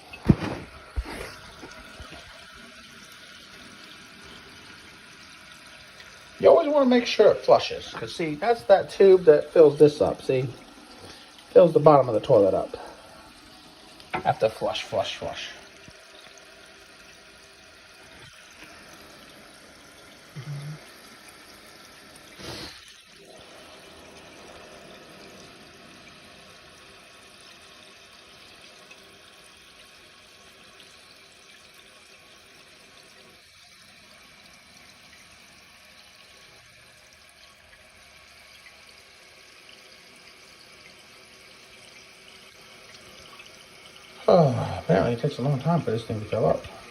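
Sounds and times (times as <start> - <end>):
toilet tank refilling hiss: 0.0 - 46.9.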